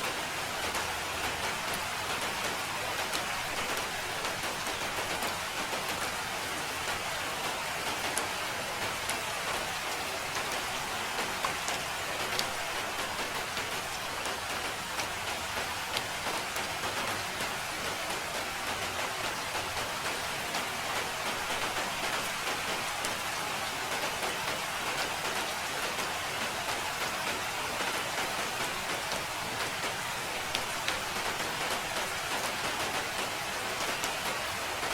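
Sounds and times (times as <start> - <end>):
rain pattering on a surface: 0.0 - 34.9.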